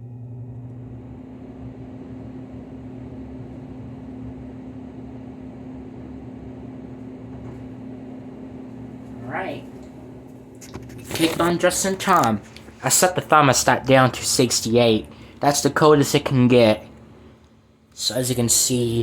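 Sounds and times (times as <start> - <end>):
blower fan humming: 0.0 - 19.0.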